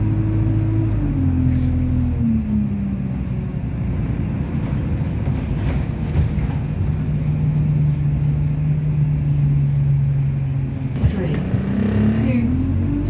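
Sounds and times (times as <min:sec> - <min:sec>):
bus engine and road rumble: 0:00.0 - 0:13.0
steady engine hum: 0:00.0 - 0:13.0.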